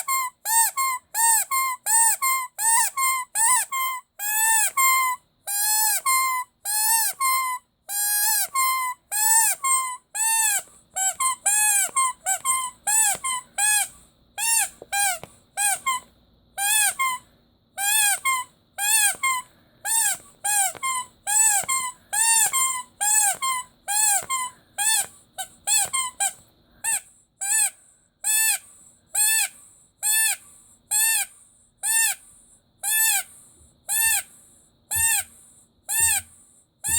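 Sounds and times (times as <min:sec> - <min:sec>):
squeaky rubber toy squeaking: 0:00.0 - 0:36.9.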